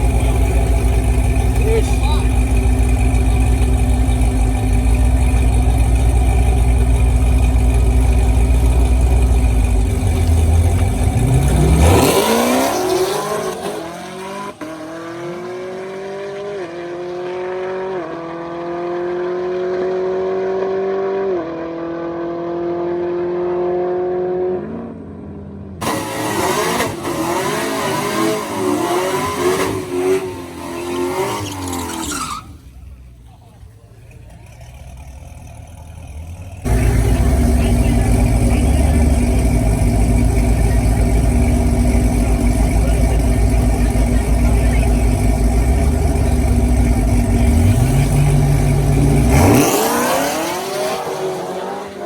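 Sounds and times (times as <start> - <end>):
loud low engine rumble: 0.0 - 16.6, 25.8 - 52.0
drag car engine accelerating: 0.0 - 52.0
wavering engine noise: 0.0 - 52.0.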